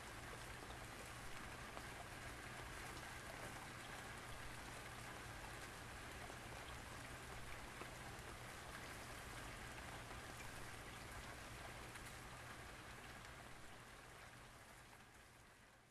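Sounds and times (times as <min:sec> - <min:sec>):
light rain falling: 0:00.0 - 0:15.9.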